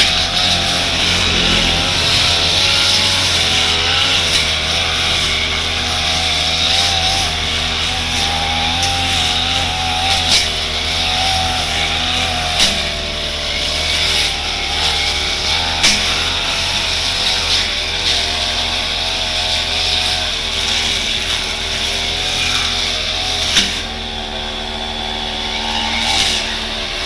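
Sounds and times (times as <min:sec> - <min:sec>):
brush cutter cutting grass: 0:00.0 - 0:27.0.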